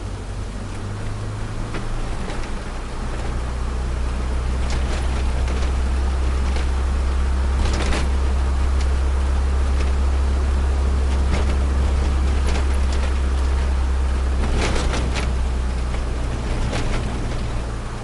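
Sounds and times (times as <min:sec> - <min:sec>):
car engine drone in cabin: 0:00.0 - 0:18.0
road and tyre noise: 0:00.0 - 0:18.0.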